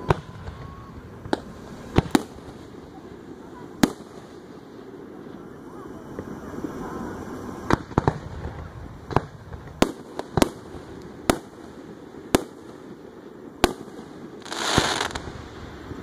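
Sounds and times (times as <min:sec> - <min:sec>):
fireworks bangs: 0:00.0 - 0:16.0
fireworks hissing: 0:00.0 - 0:16.0.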